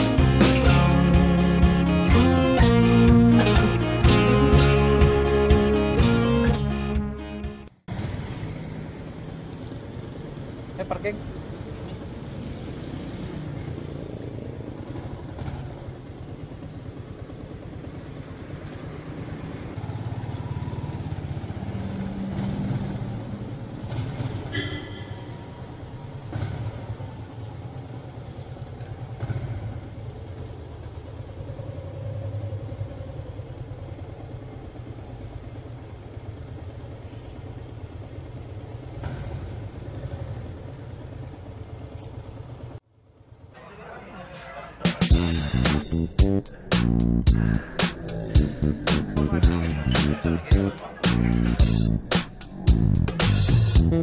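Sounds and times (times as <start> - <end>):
motorcycle engine running: 6.9 - 43.4, 45.0 - 54.0.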